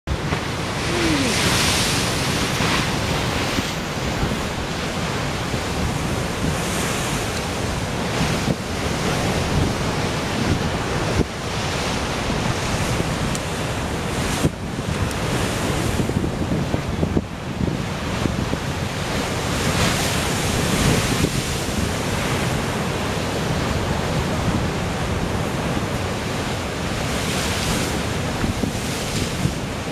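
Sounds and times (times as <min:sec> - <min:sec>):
ocean surf crashing on rocks: 0:00.1 - 0:29.9
wind rumbling on microphone: 0:00.1 - 0:29.9.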